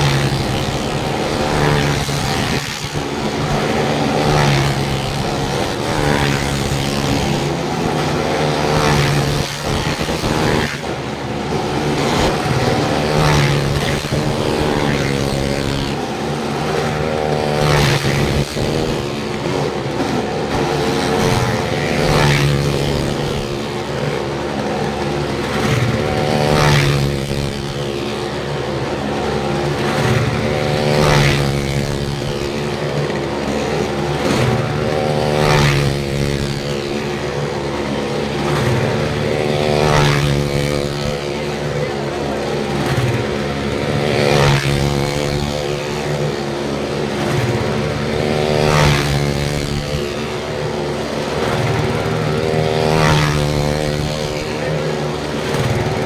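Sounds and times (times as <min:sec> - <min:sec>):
vehicle engines revving hard: 0:00.0 - 0:56.0.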